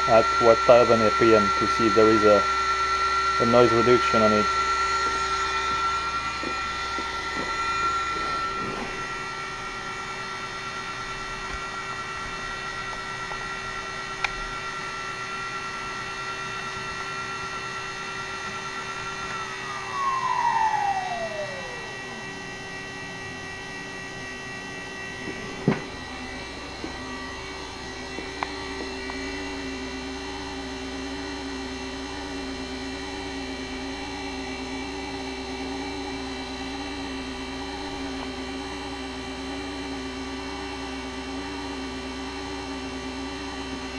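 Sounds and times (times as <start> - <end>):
spindle high whine: 0.0 - 43.9
steady low hum: 0.0 - 43.9.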